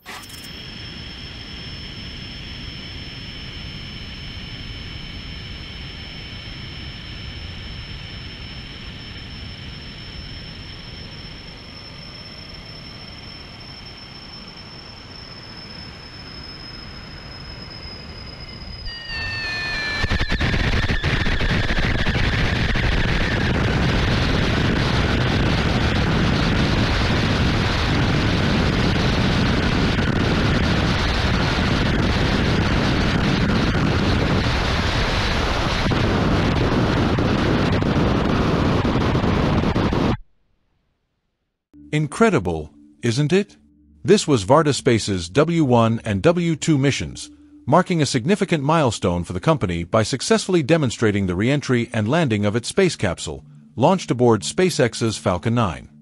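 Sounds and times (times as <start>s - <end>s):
high whining tones: 0.0s - 40.2s, 41.8s - 56.0s.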